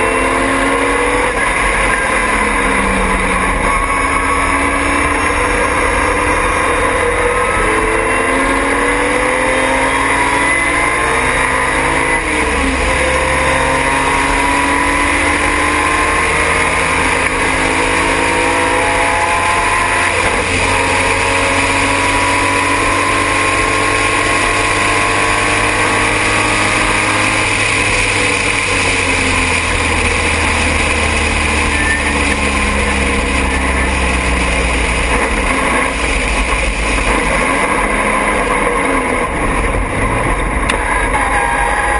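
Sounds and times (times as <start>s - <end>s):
race car engine revving: 0.0s - 41.9s
wind and road noise: 0.0s - 41.9s.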